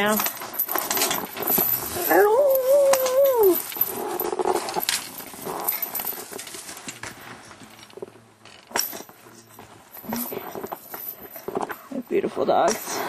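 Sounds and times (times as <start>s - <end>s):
knocks and rustles: 0.0s - 13.0s.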